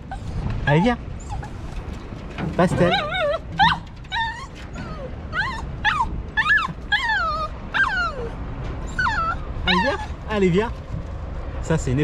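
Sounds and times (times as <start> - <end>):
dog whining and yelping: 0.0 - 10.3.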